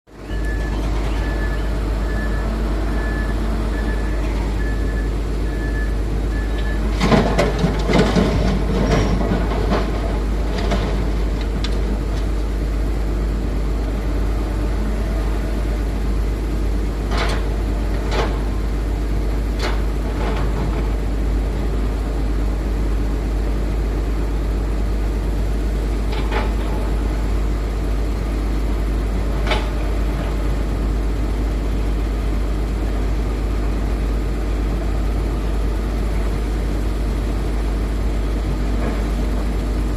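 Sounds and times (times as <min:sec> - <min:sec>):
heavy diesel machinery running: 0:00.1 - 0:39.9.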